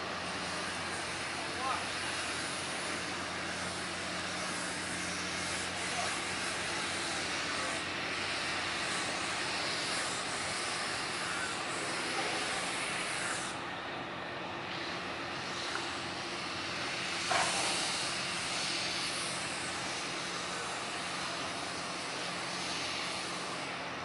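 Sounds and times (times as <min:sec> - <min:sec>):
diesel engine drone: 0:00.0 - 0:24.0
steady hiss: 0:00.0 - 0:24.0.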